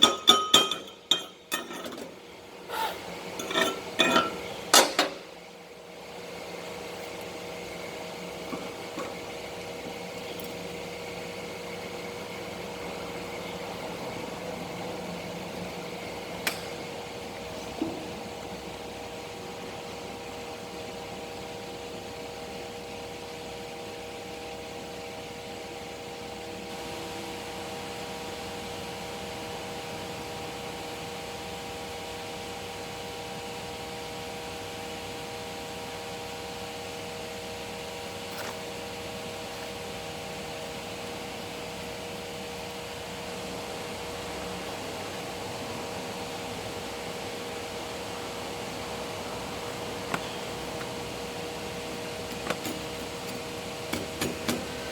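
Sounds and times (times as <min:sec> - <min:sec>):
constant hum: 0:00.0 - 0:25.0, 0:34.4 - 0:54.9.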